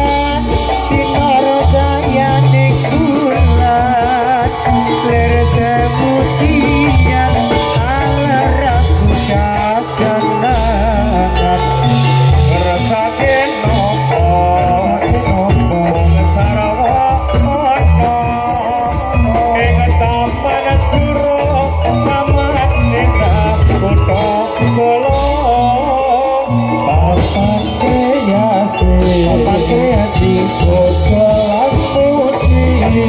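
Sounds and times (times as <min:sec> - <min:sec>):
heavy drum beats: 0:00.0 - 0:33.0
wavering melody: 0:00.0 - 0:33.0.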